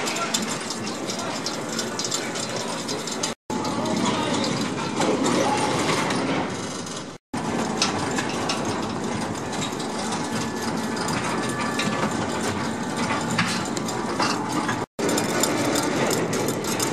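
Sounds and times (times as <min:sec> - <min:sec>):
steel wheels and gears clattering: 0:00.0 - 0:16.9.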